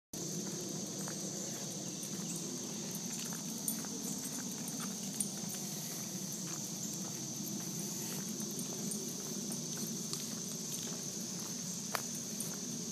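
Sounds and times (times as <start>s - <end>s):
footsteps walking: 0.2s - 12.9s
high-pitched insect drone: 0.2s - 12.9s.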